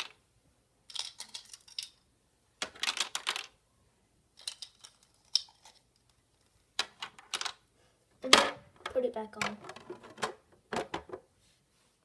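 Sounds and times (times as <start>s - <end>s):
magnets and plastic parts clattering: 0.0s - 0.2s, 0.9s - 3.6s, 4.3s - 11.2s.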